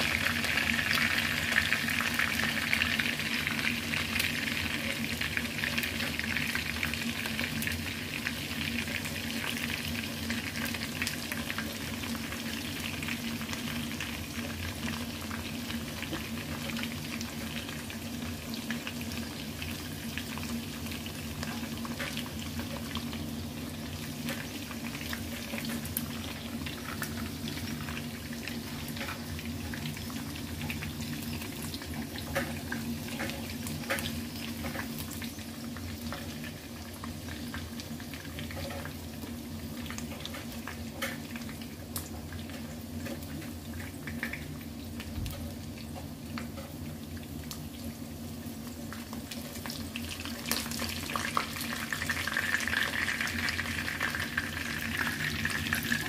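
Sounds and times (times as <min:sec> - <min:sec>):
chicken frying in hot oil: 0:00.0 - 0:56.0.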